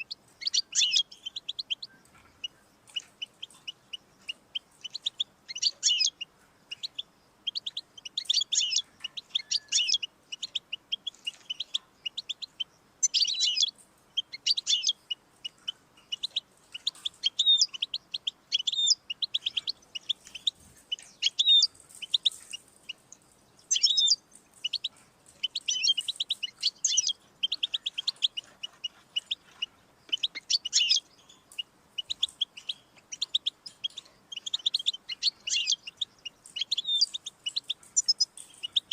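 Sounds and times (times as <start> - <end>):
finch twittering song: 0.0 - 38.9.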